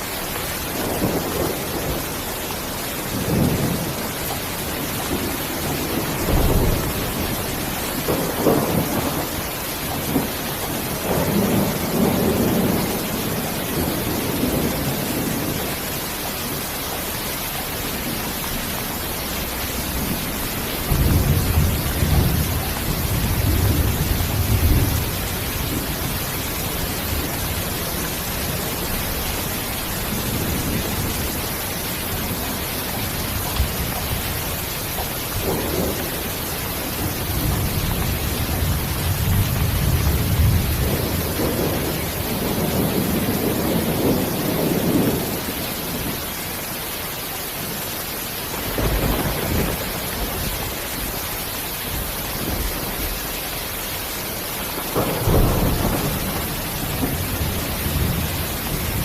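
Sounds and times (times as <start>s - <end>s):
steady rain hiss: 0.0s - 59.0s
low thunder rolls: 0.4s - 15.8s, 17.9s - 46.2s, 48.5s - 51.1s, 54.6s - 59.0s.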